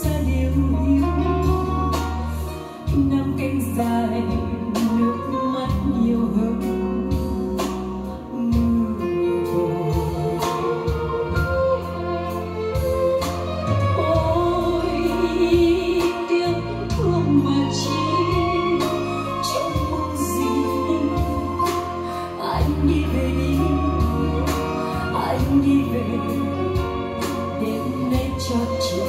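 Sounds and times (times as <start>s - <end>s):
sung ballad with guitar: 0.0s - 29.0s.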